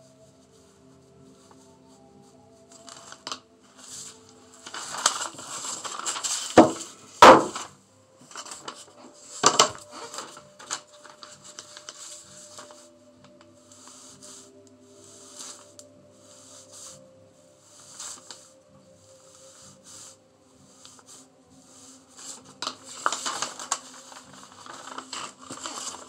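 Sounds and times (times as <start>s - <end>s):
faint steady background tones: 0.0s - 26.0s.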